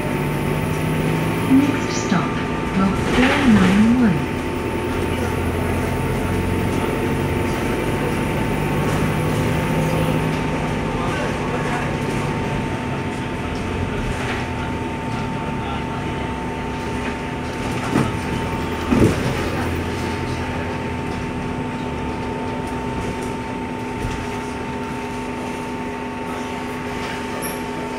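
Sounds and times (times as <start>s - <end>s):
bus running noise from inside: 0.0s - 27.9s.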